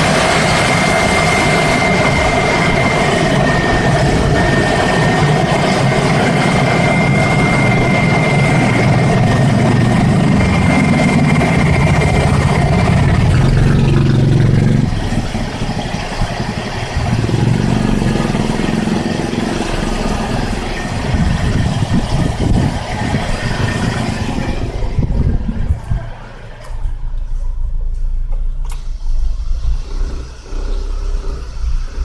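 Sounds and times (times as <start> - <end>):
car engine idling: 0.0 - 32.0
faint whine: 0.0 - 32.0.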